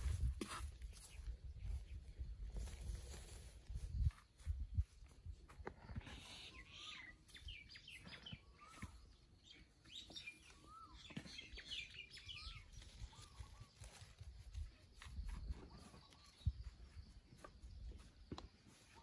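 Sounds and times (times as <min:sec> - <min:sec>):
faint birds chirping: 0:00.7 - 0:02.9, 0:03.9 - 0:19.0.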